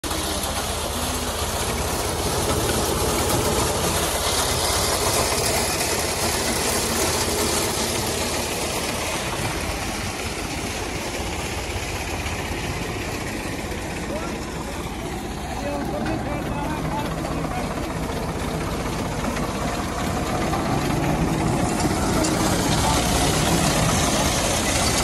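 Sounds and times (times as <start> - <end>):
tractor engine under load: 0.0 - 25.0.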